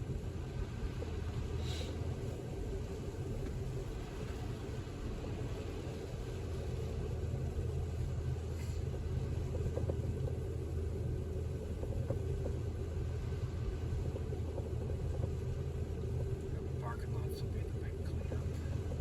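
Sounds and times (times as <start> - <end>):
car road rumble: 0.0 - 19.0.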